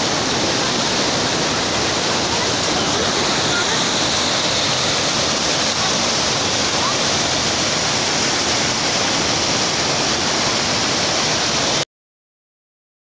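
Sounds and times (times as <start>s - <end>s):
water rushing over boulders: 0.0s - 11.8s.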